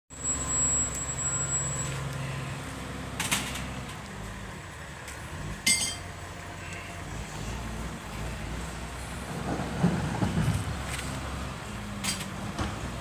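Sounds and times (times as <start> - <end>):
diesel engine running: 0.1 - 13.0.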